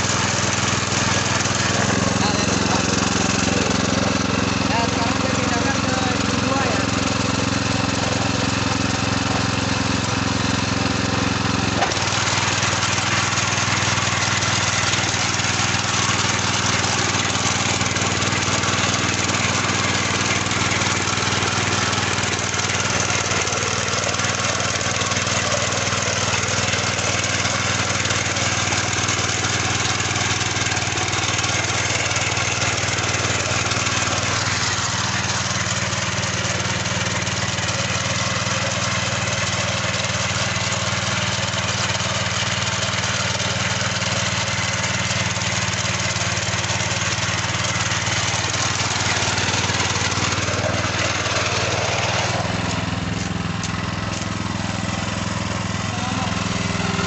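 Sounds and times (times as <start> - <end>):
tiller engine running: 0.0 - 57.0
tines churning soil: 0.0 - 57.0.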